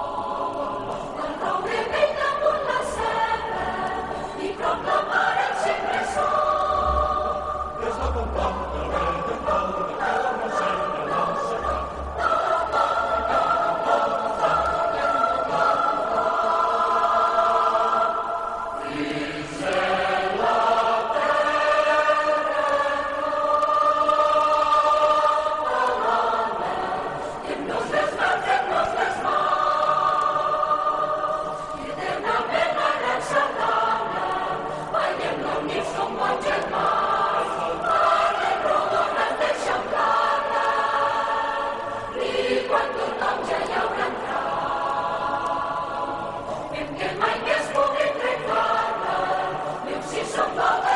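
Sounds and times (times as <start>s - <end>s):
choir singing held chords: 0.0s - 50.9s.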